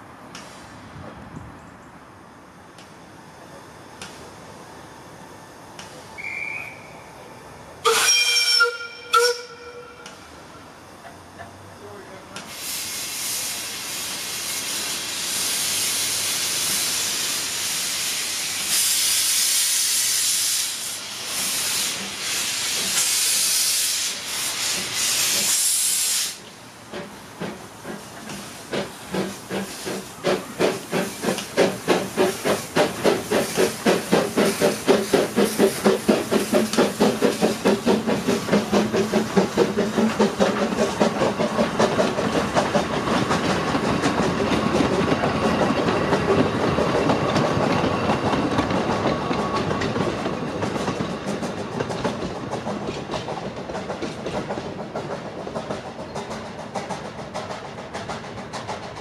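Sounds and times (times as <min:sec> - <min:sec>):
loud hissing steam: 0:00.0 - 0:01.3, 0:02.4 - 0:52.9
steam locomotive exhaust chuffs: 0:07.8 - 0:59.0.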